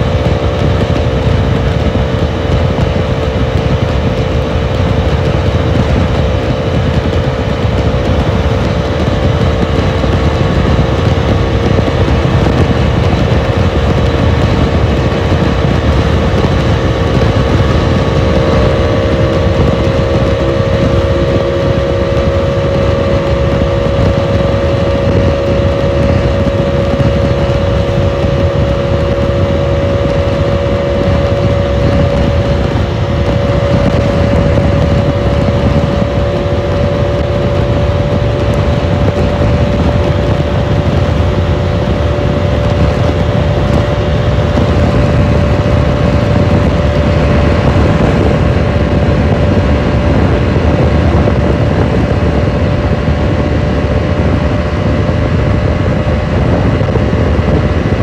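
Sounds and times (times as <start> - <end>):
motorcycle engine running hard: 0.0 - 58.0
wind buffeting microphone: 0.0 - 58.0.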